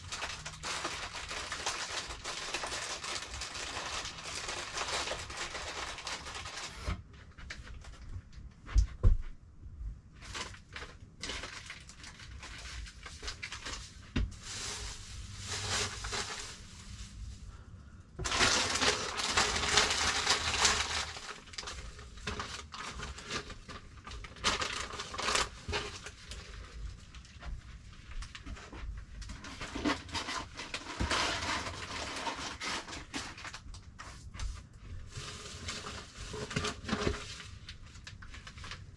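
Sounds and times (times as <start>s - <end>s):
cardboard and plastic rustling: 0.0s - 9.3s, 10.2s - 17.6s, 18.2s - 38.9s.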